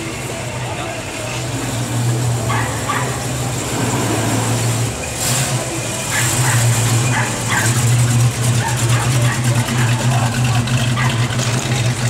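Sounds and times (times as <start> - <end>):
car engine rumbling past: 0.0 - 12.0.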